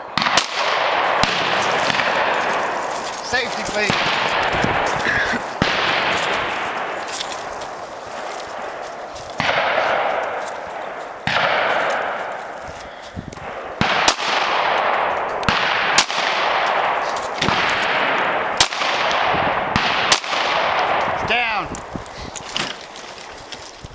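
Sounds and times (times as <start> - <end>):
pistol shots: 0.0 - 12.6, 13.4 - 21.6.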